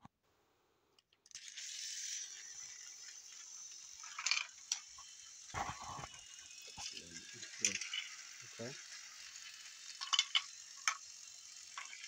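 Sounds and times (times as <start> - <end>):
toy train motor whirring: 1.2 - 12.0.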